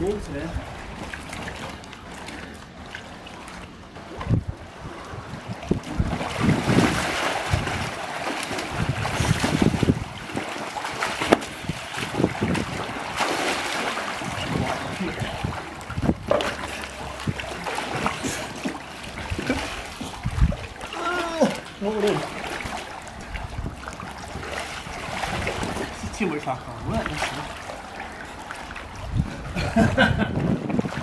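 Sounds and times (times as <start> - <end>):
wind buffeting microphone: 0.0 - 2.1, 3.8 - 31.0
pool water splashing: 0.0 - 31.0.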